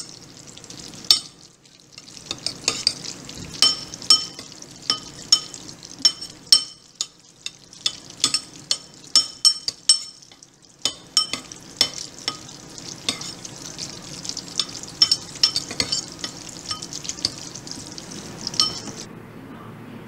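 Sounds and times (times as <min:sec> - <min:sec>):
pasta being stirred: 0:00.0 - 0:19.1
metal spoon clinking in bowl: 0:01.1 - 0:01.4, 0:02.0 - 0:19.1.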